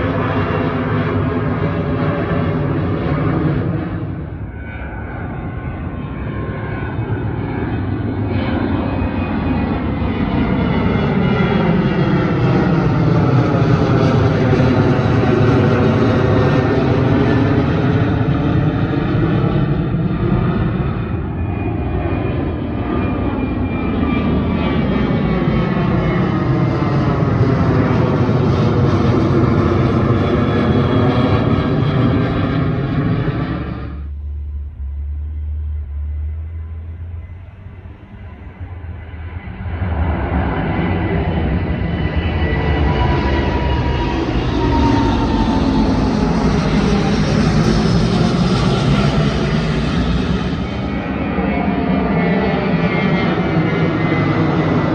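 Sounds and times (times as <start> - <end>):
jet airliner taking off: 0.0 - 54.9.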